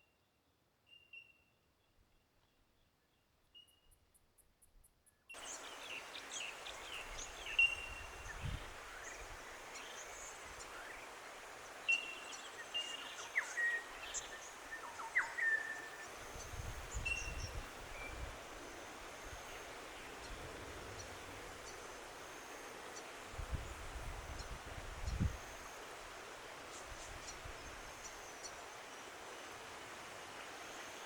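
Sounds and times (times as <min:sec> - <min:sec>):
steady outdoor hiss: 0:04.2 - 0:31.0.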